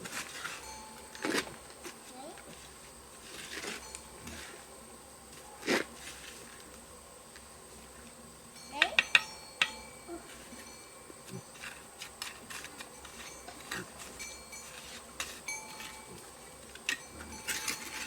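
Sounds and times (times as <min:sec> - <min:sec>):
high insect buzz: 0:00.0 - 0:18.0.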